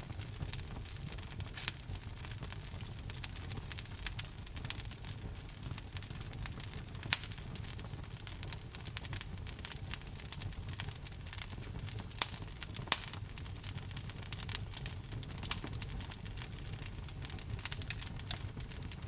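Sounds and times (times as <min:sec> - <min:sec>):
fire rumbling: 0:00.0 - 0:19.0
logs crackling and popping: 0:00.0 - 0:19.0.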